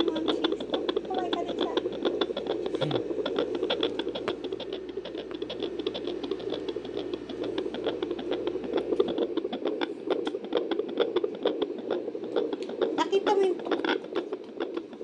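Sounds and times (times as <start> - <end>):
fetal heartbeat whooshing clicks: 0.0 - 15.0.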